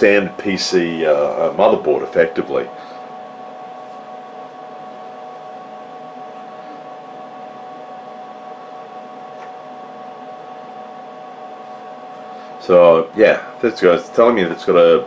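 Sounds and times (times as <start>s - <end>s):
cooling fans whirring: 0.0s - 15.0s.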